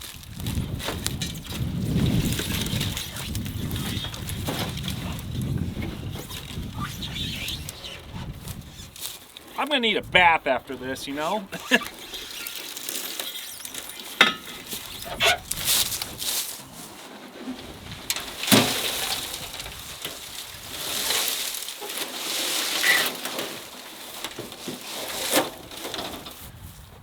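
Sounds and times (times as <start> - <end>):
rustling and handling noises: 0.0 - 27.0.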